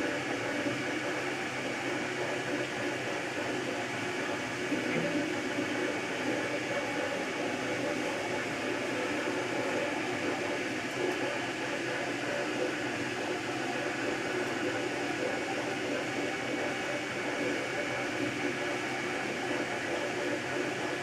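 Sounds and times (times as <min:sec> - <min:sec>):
cooling fan humming: 0:00.0 - 0:21.0.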